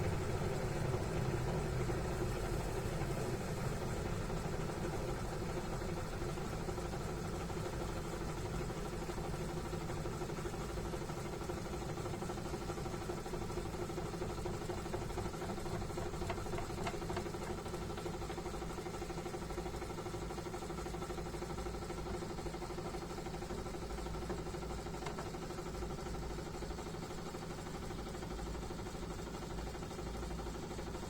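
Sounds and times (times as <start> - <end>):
washing machine spinning: 0.0 - 31.0.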